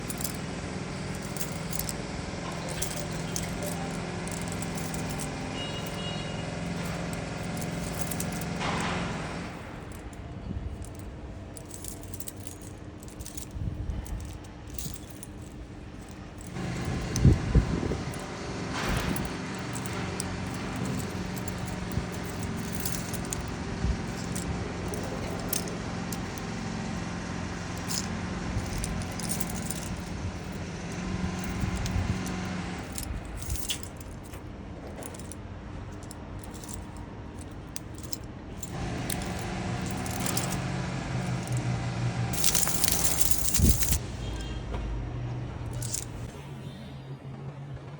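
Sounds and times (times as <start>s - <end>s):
keys jangling: 0.0s - 44.6s, 45.6s - 46.3s
steady low hum: 0.0s - 47.8s.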